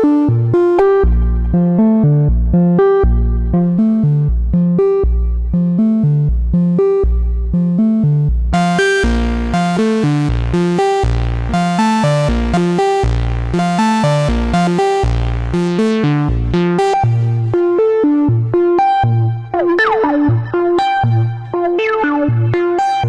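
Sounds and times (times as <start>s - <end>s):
analog synthesizer sequence: 0.0s - 23.0s.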